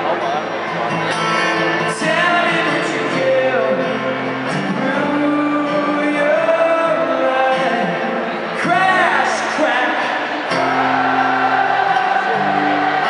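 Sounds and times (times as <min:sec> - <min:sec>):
guitar: 0:00.0 - 0:13.0.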